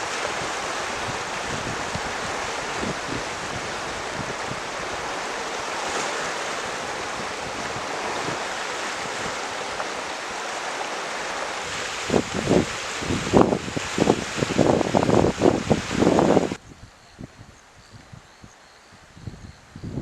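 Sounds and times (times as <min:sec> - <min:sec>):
flowing water rushing: 0:00.0 - 0:16.6
wind buffeting microphone: 0:00.0 - 0:20.0.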